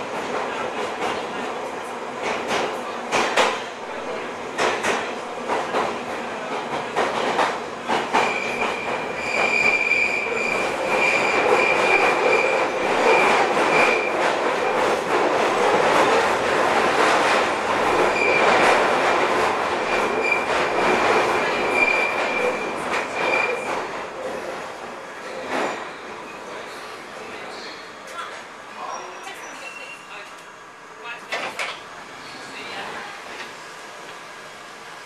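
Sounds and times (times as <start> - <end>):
train wheels rolling on rail: 0.0 - 35.0.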